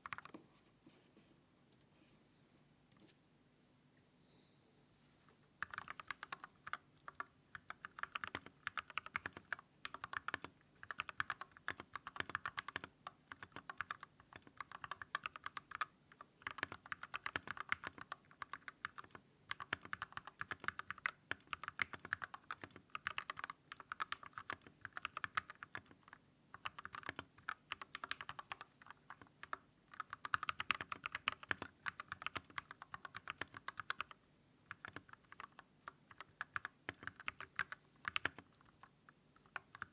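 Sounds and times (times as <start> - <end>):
mechanical keyboard typing: 0.0 - 0.3, 5.6 - 39.9.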